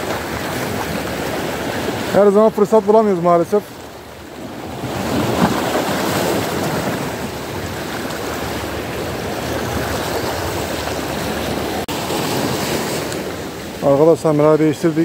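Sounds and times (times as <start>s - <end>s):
sea surf washing ashore: 0.0s - 15.0s.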